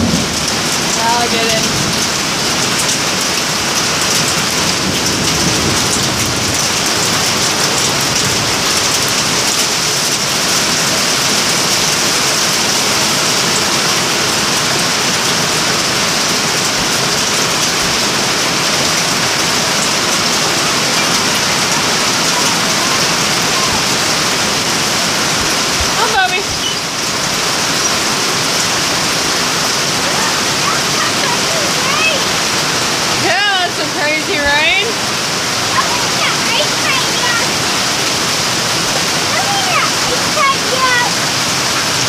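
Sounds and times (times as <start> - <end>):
rain and hail on a metal roof: 0.0 - 42.0.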